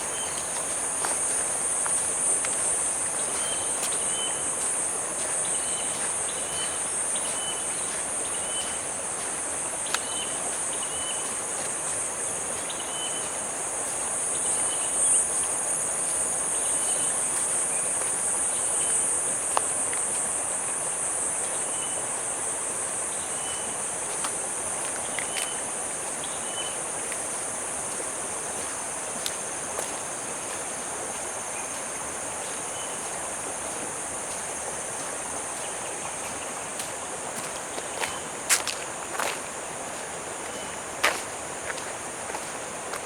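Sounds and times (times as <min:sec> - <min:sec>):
background hiss: 0:00.0 - 0:43.0
insect chorus: 0:00.0 - 0:43.0.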